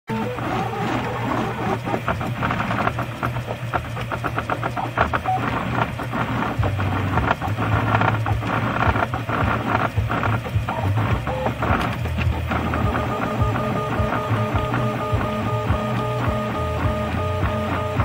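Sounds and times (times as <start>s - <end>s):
quick ticking: 0.1s - 18.0s
stepper motors humming: 0.1s - 18.0s.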